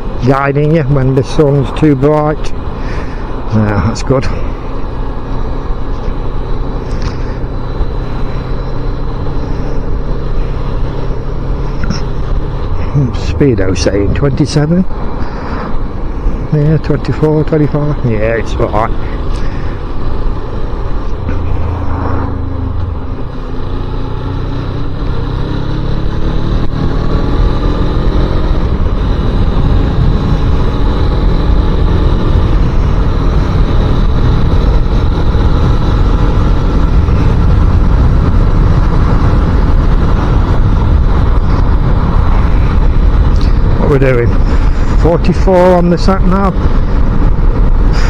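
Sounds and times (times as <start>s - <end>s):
motorcycle engine accelerating: 0.0s - 48.0s
wind rumble on microphone: 0.0s - 48.0s.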